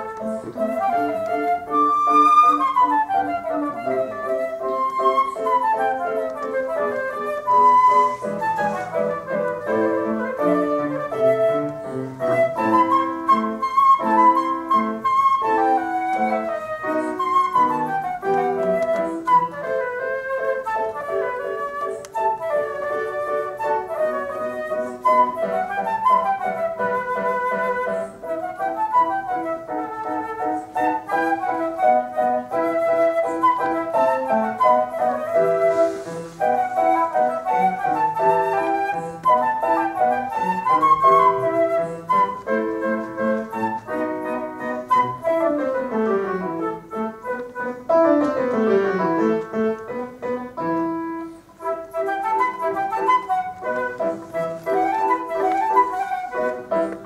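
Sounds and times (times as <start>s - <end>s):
flute playing classical melody: 0.0s - 57.0s
grand piano: 0.0s - 57.0s.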